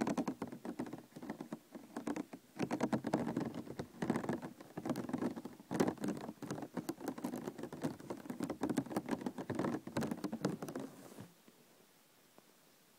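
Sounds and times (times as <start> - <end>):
plastic container clicking and crackling: 0.0 - 10.9.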